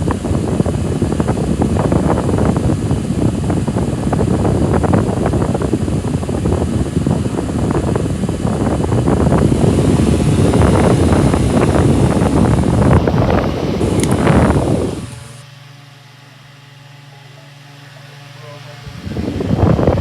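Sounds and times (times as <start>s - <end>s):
fan airflow rushing: 0.0s - 15.8s, 17.8s - 20.0s.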